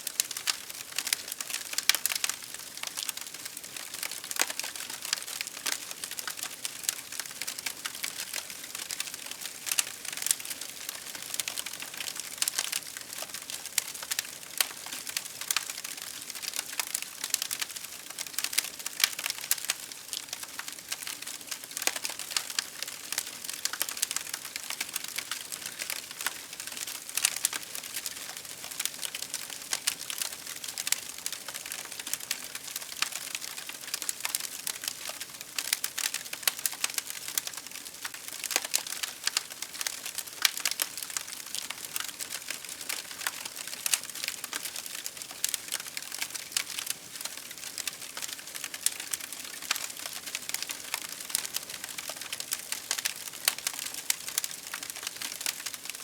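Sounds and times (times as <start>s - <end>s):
fire crackling: 0.1s - 55.9s.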